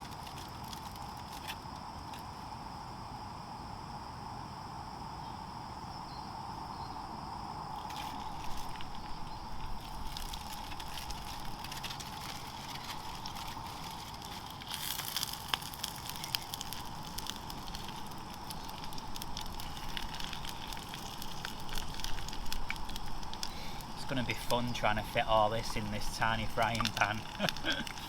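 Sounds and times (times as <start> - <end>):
fire crackling and popping: 0.0 - 2.6, 7.5 - 28.0
faint hiss: 0.0 - 28.0.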